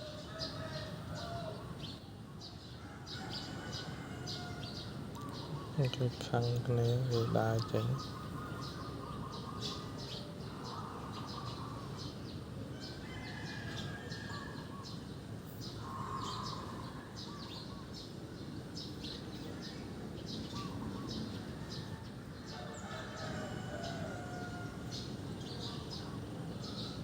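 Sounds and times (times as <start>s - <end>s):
birds chirping: 0.0s - 27.0s
steady background hiss: 0.0s - 27.0s.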